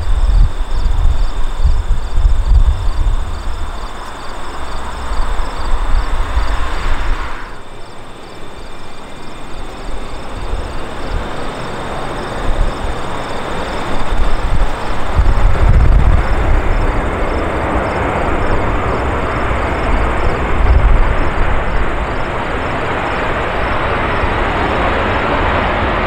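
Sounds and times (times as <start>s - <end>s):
insects chirping: 0.0s - 26.0s
jet engines roaring: 0.0s - 26.0s
wind rumble on microphone: 0.0s - 26.0s.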